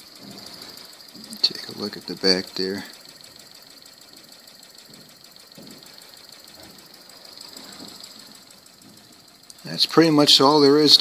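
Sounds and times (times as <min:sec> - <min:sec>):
steam engine exhaust chuffing: 0:00.0 - 0:11.0.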